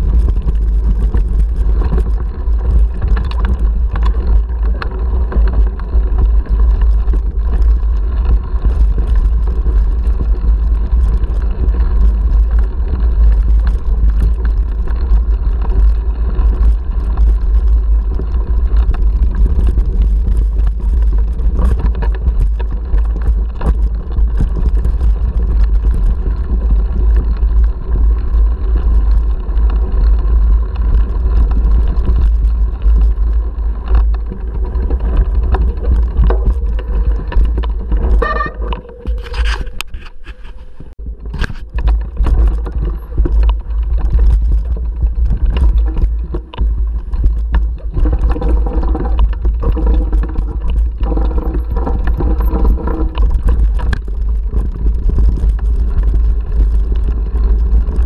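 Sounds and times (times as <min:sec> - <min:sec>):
bike and mount rattling: 0:00.0 - 0:58.0
tyres crunching over gravel: 0:00.0 - 0:58.0
wind buffeting microphone: 0:00.0 - 0:58.0.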